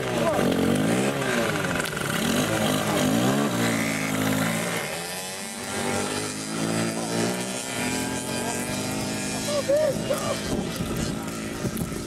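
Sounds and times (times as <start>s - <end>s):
quad bike engines revving: 0.0s - 12.0s.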